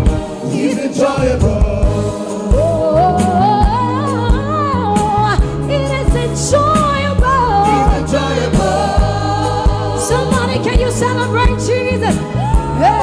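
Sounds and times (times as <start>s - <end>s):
bass: 0.0s - 0.4s, 1.2s - 13.0s
drum beat: 0.0s - 13.0s
keyboard chords: 0.0s - 13.0s
person singing gospel melody: 0.0s - 13.0s.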